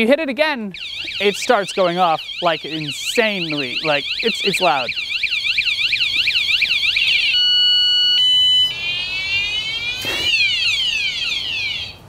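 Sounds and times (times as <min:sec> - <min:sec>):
bike alarm siren: 0:00.7 - 0:12.0.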